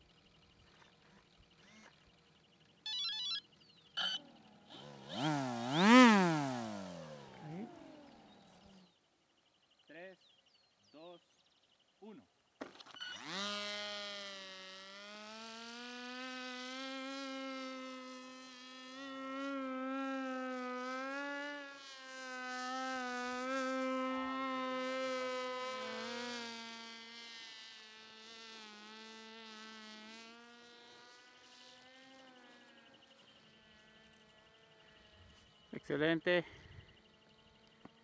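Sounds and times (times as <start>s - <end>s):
propeller motor buzzing: 0.0s - 9.0s, 12.9s - 35.7s, 36.4s - 38.0s.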